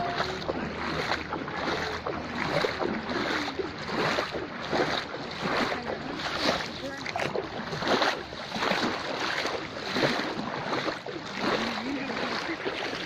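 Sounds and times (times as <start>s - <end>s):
floodwater splashing: 0.0s - 13.0s.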